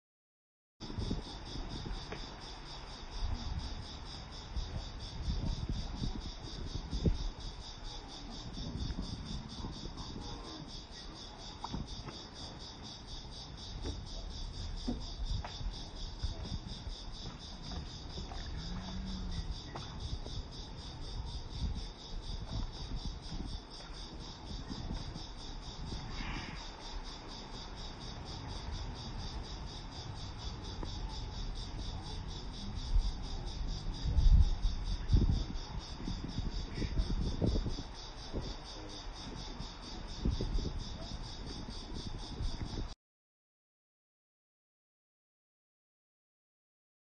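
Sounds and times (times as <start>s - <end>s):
insects chirping: 0.8s - 43.0s.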